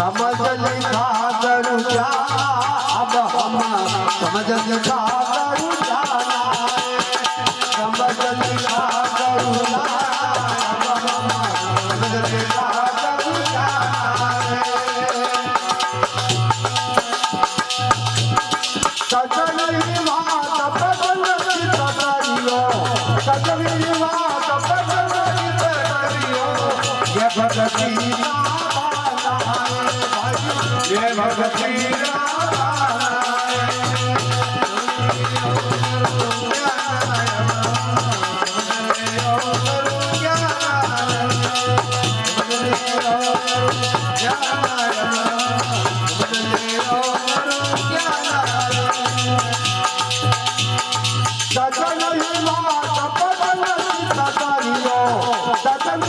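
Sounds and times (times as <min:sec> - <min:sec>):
instrumental accompaniment: 0:00.0 - 0:56.0
person singing devotional song: 0:00.0 - 0:56.0
rattling hand percussion: 0:00.0 - 0:56.0.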